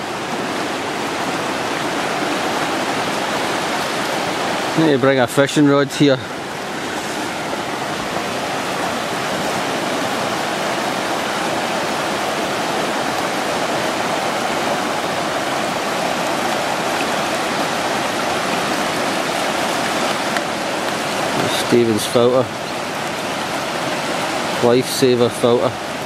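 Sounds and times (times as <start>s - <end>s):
river rushing over rapids: 0.0s - 26.0s.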